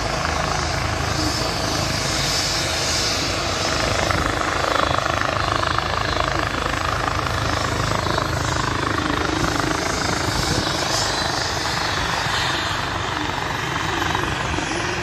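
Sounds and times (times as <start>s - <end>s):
helicopter turbines and rotors: 0.0s - 15.0s.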